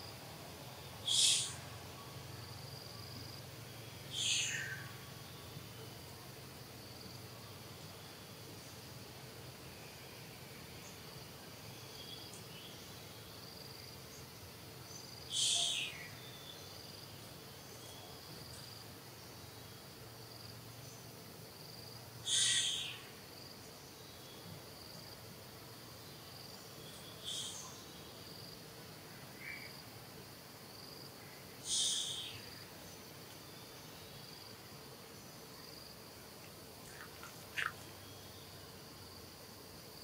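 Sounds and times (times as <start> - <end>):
faint insects chirping: 0.0 - 40.0.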